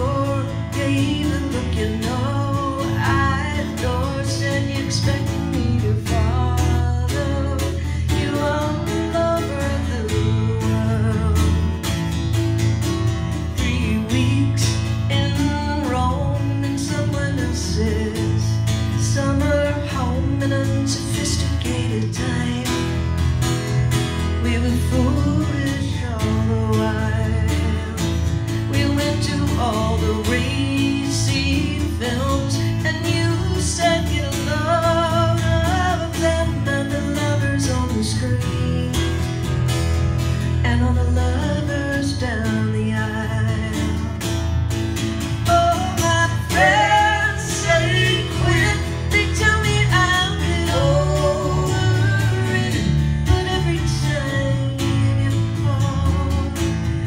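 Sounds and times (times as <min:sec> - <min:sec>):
strummed acoustic guitar: 0:00.0 - 0:57.0
upright bass: 0:00.0 - 0:57.0.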